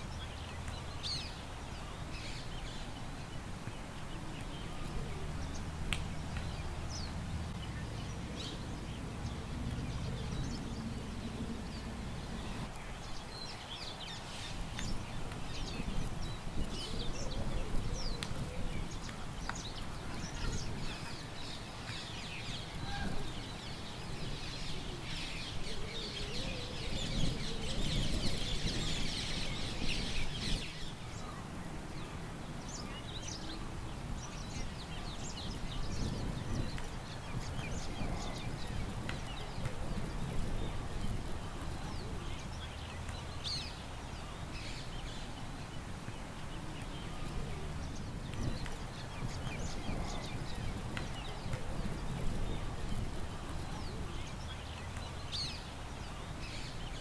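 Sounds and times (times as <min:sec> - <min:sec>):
low wind rumble: 0:00.0 - 0:57.0
small birds chirping: 0:00.0 - 0:57.0.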